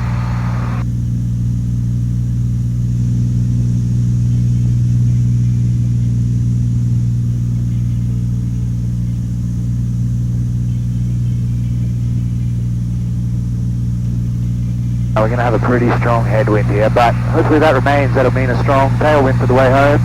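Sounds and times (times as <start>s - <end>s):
airplane engine and propeller droning: 0.0s - 14.0s, 14.6s - 20.0s.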